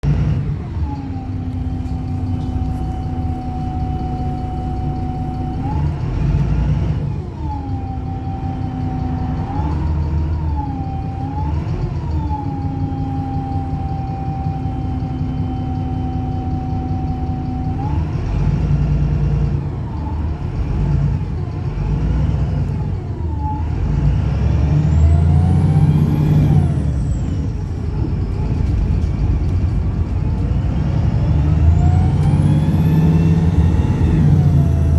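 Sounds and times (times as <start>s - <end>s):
bus engine idling with whine: 0.0s - 34.9s
bus engine rough drone: 0.0s - 34.9s.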